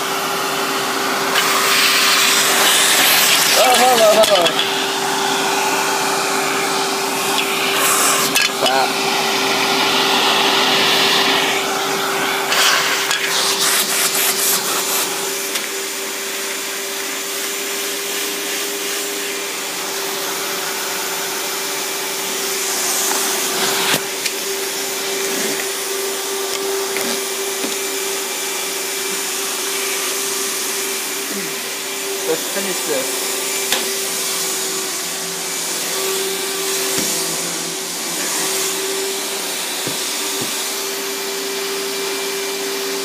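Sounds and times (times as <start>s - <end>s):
vacuum cleaner motor whine: 0.0s - 43.0s.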